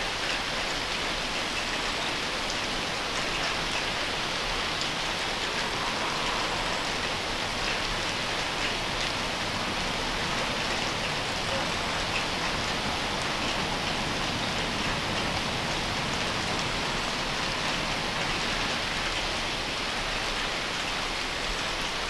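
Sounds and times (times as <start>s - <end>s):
raindrops ticking: 0.0s - 21.0s
steady rain hiss: 0.0s - 22.0s.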